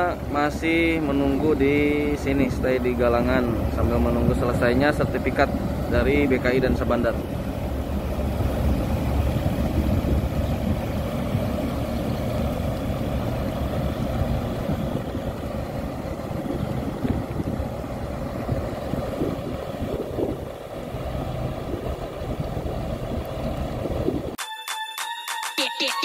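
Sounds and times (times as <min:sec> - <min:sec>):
water rushing past hull: 0:00.0 - 0:24.2
boat engine rumbling: 0:00.0 - 0:24.4.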